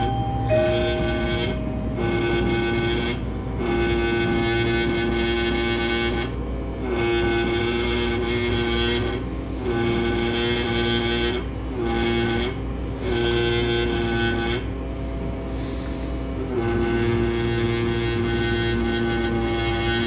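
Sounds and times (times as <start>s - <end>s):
low hum: 0.0s - 20.0s
air scribe buzzing on rock: 0.5s - 20.0s.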